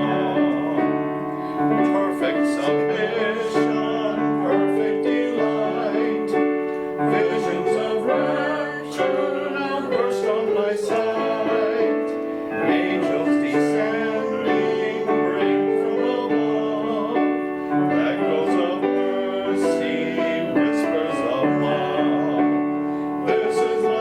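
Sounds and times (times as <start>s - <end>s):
piano chords: 0.0s - 24.0s
voices singing a hymn: 0.0s - 24.0s.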